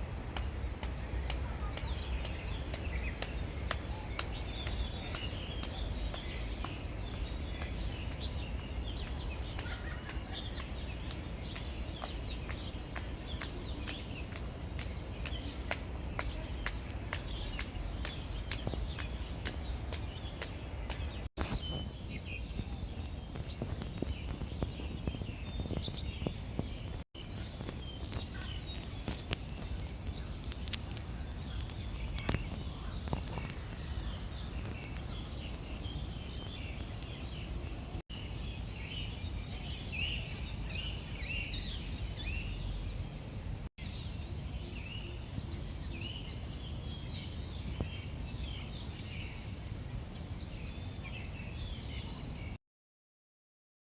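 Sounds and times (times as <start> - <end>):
birds chirping: 0.0 - 52.6.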